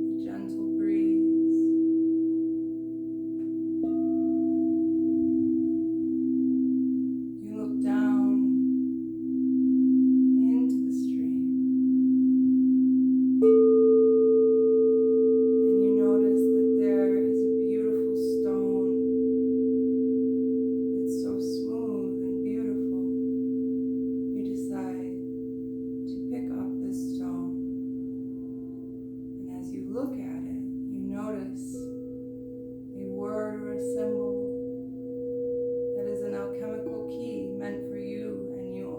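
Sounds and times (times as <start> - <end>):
singing bowls ringing: 0.0 - 38.9.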